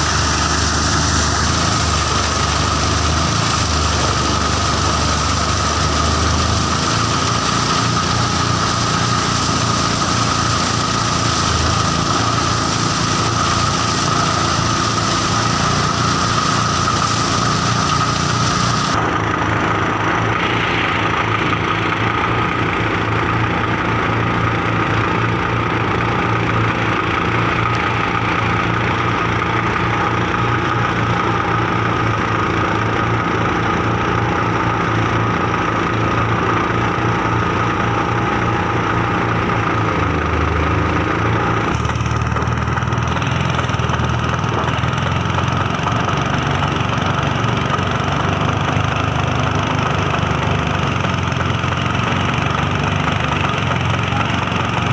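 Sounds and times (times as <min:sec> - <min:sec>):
diesel engine low drone: 0:00.0 - 0:54.9.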